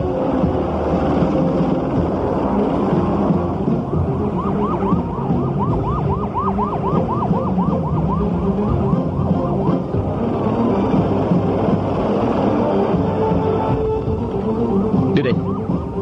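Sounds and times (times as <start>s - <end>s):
steady low drone: 0.0s - 16.0s
siren yelping: 3.0s - 16.0s.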